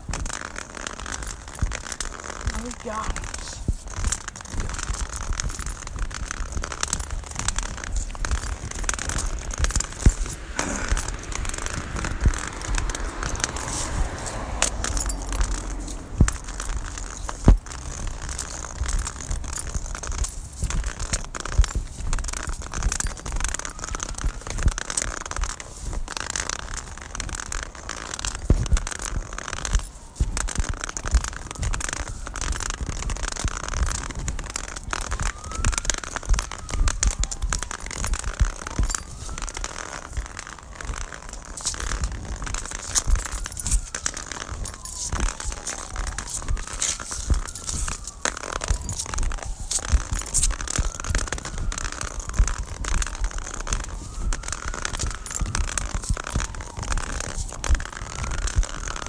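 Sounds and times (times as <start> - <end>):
rustling handling noise: 0.0 - 59.0.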